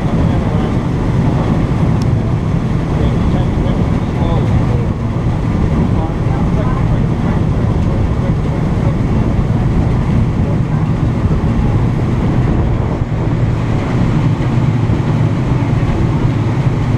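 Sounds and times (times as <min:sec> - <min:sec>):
churning wake water: 0:00.0 - 0:16.9
ferry engine low rumble: 0:00.0 - 0:16.9.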